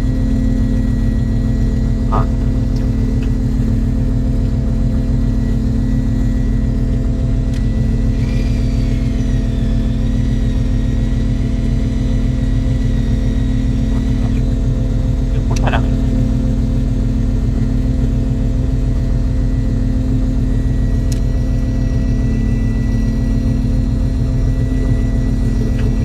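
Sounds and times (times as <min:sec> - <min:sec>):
faint high whine: 0:00.0 - 0:18.4, 0:19.1 - 0:26.0
boat engine droning: 0:00.0 - 0:26.0.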